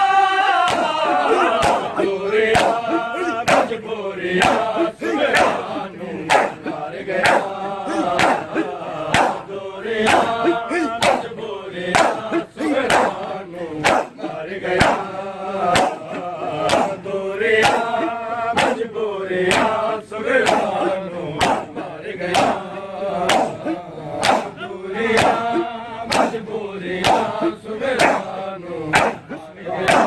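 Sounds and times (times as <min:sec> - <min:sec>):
men chanting a lament: 0:00.0 - 0:30.0
men slapping chests in unison: 0:00.0 - 0:30.0.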